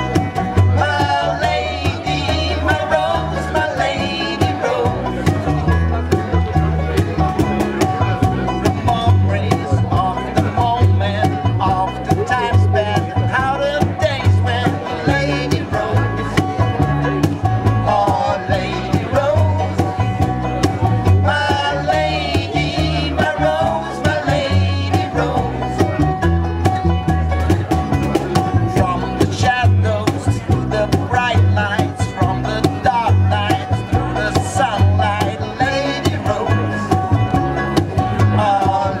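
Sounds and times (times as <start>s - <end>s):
live band playing: 0.0s - 39.0s
plucked double bass: 0.0s - 39.0s.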